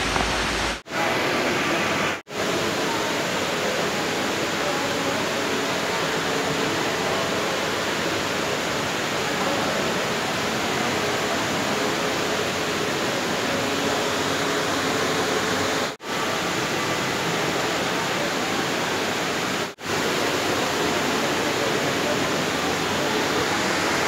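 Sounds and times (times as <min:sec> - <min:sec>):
indoor waterfall rushing: 0:00.0 - 0:24.0.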